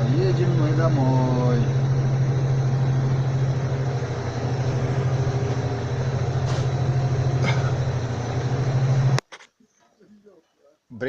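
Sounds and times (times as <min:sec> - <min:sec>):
tractor engine humming: 0:00.0 - 0:09.3.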